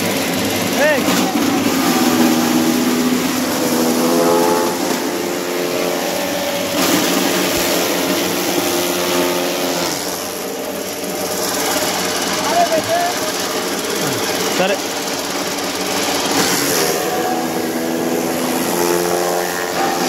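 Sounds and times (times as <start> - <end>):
chaff cutter machine whirring: 0.0 - 20.0.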